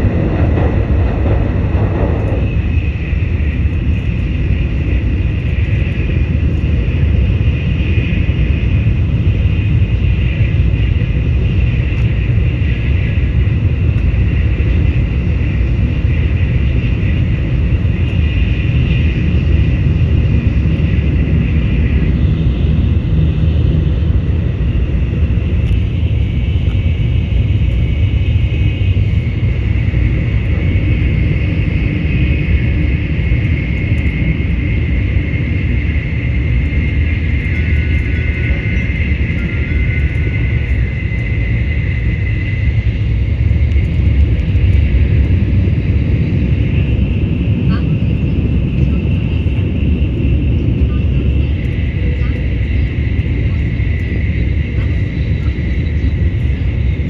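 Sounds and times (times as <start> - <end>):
train rumbling at speed: 0.0 - 57.0.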